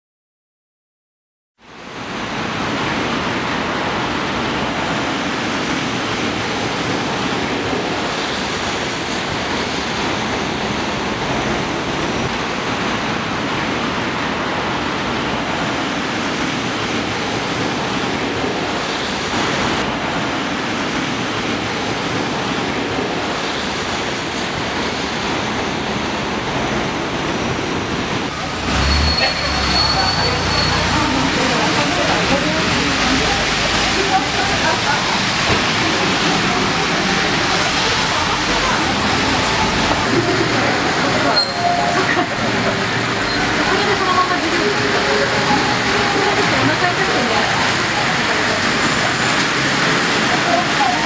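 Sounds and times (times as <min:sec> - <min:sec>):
storm wind and rain: 0:01.6 - 0:51.0.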